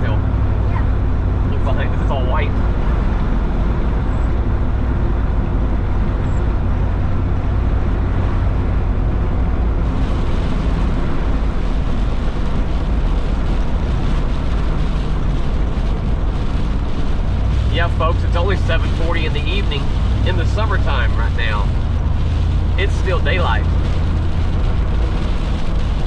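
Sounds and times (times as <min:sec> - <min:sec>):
road and wind noise: 0:00.0 - 0:26.0
vehicle interior rumble: 0:00.0 - 0:26.0.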